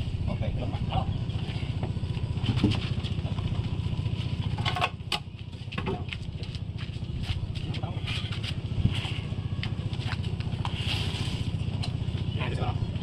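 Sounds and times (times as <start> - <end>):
engine running with low throb: 0.0 - 13.0.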